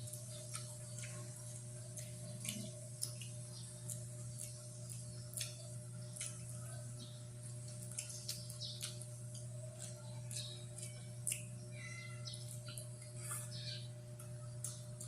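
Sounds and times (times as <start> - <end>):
chewing and wet mouth smacks: 0.0 - 11.6, 14.2 - 15.0
low electrical hum: 0.0 - 15.0.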